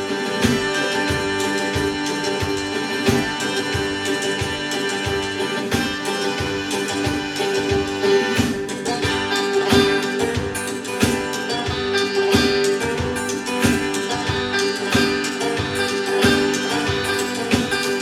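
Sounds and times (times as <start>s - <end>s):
live band playing bluegrass rock: 0.0s - 18.0s.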